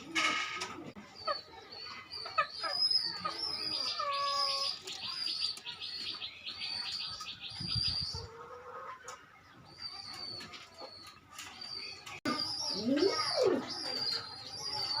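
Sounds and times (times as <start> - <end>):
small birds chirping: 1.0 - 8.4, 9.0 - 15.0.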